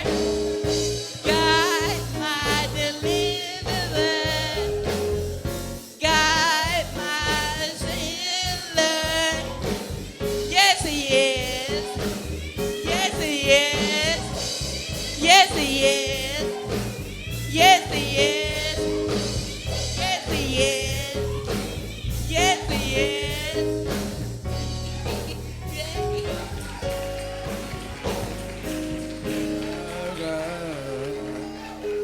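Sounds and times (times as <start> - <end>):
band accompaniment with low beat: 0.0 - 32.0
gospel singer with vibrato: 0.0 - 32.0.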